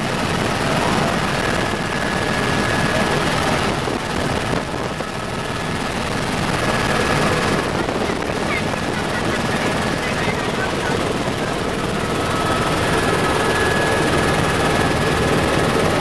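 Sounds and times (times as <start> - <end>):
helicopter rotor and turbine noise: 0.0 - 16.0.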